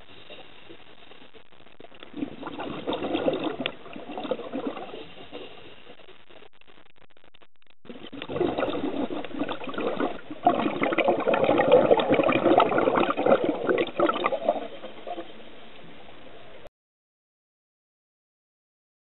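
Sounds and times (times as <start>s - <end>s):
faint steady hiss: 0.0s - 16.7s
underwater bubbling and gurgling: 0.0s - 16.7s.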